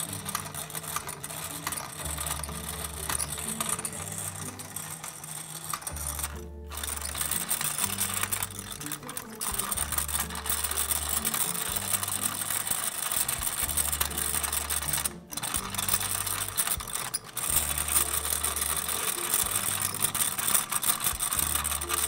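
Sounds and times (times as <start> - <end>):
gears and rollers whirring: 0.0 - 22.0.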